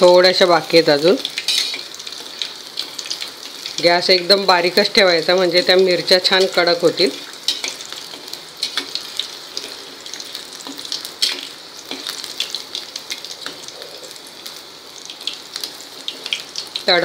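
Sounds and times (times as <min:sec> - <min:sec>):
chillies sizzling in hot oil: 0:00.0 - 0:17.0.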